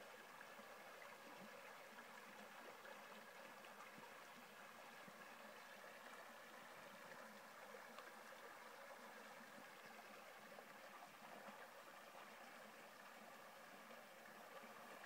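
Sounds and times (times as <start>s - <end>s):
stream flowing over gravel: 0.0s - 15.0s.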